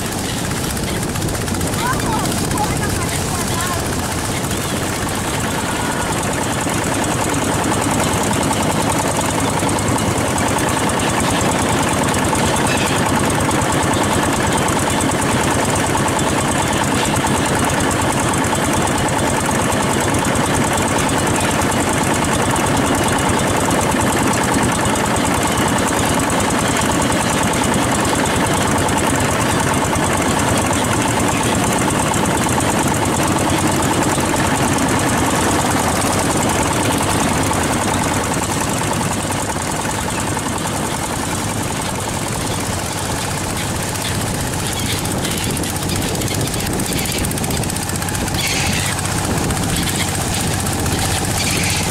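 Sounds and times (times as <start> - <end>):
boat engine knocking: 0.0 - 51.9.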